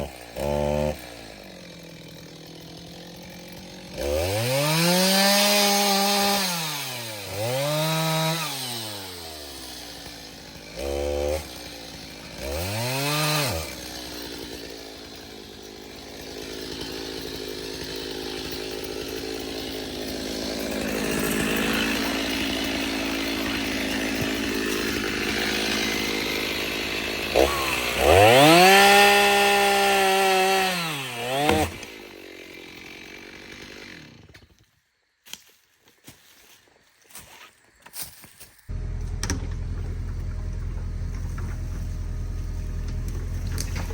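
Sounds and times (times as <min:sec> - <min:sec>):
chainsaw running: 0:00.0 - 0:34.6, 0:38.7 - 0:43.9.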